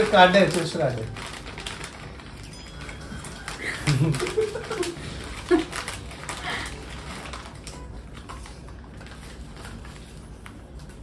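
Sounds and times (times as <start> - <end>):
chip packet crackling: 0.0 - 11.0.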